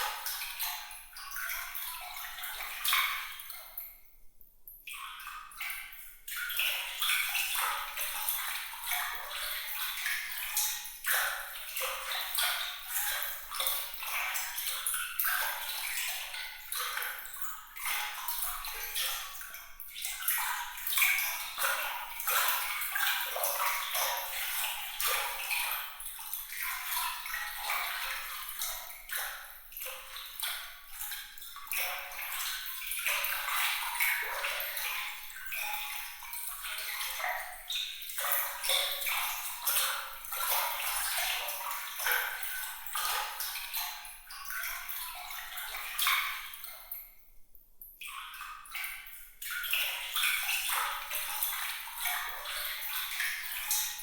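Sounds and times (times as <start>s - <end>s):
water trickling and splashing: 0.0s - 4.1s, 4.8s - 47.2s, 47.8s - 54.0s.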